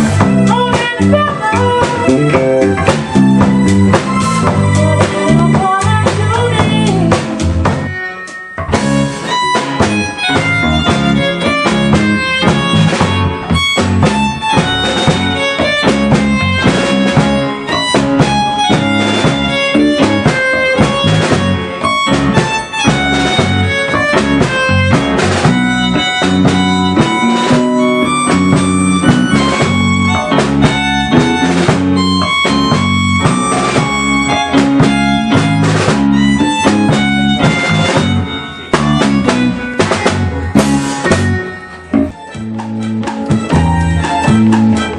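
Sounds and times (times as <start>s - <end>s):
drum kit beat: 0.0s - 44.9s
guitar lead notes: 0.0s - 44.9s.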